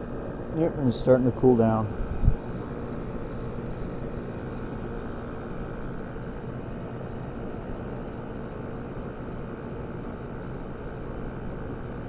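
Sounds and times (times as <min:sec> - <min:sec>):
air conditioner hum: 0:00.0 - 0:12.0.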